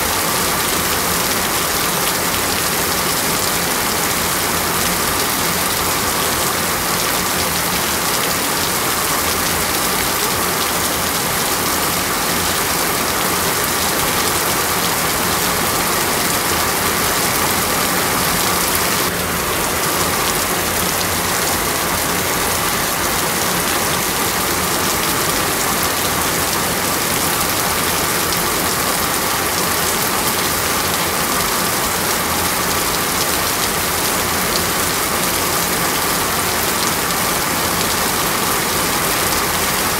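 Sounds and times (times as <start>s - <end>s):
rain on wet street: 0.0s - 39.9s.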